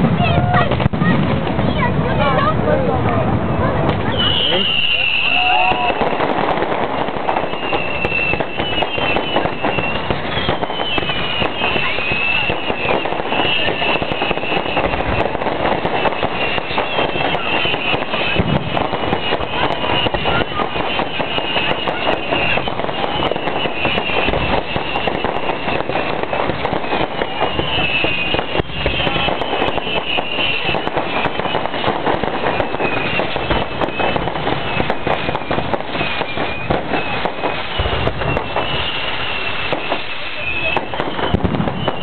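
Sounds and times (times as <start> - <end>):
fireworks whistling: 0.0 - 2.9, 3.8 - 42.0
fireworks crackling: 0.0 - 42.0.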